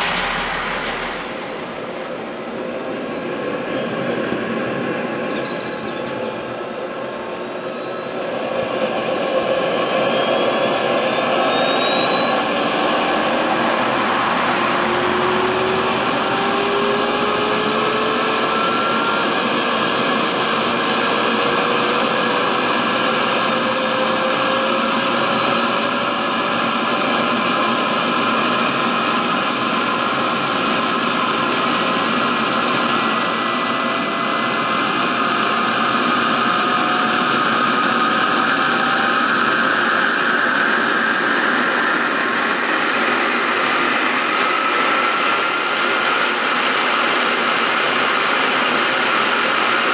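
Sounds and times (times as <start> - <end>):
jet turbine running up: 0.0 - 49.9.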